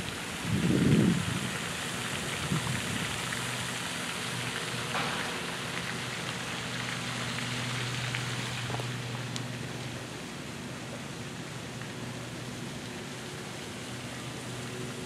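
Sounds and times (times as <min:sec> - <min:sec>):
fountain splashing into pond: 0:00.0 - 0:15.0.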